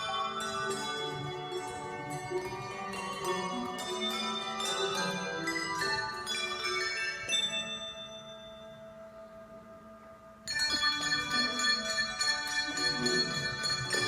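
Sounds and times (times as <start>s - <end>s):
handbells ringing: 0.0s - 9.0s, 10.5s - 14.0s.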